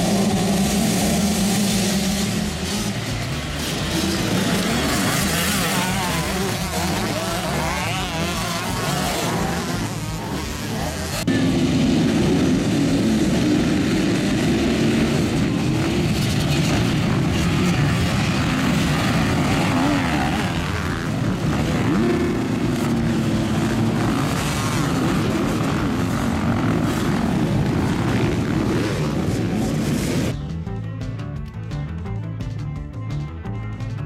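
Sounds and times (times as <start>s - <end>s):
motocross bikes revving: 0.0s - 30.4s.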